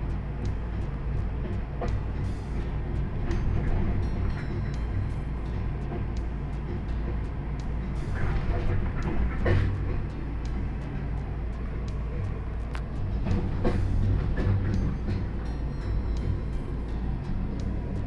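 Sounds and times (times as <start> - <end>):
cable car rumble and hum: 0.0 - 18.0.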